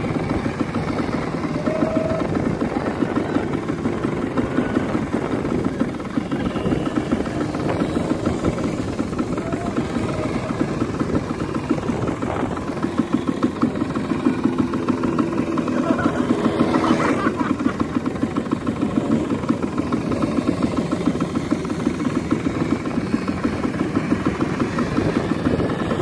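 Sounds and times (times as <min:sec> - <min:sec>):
quad bike engines revving: 0:00.0 - 0:26.0.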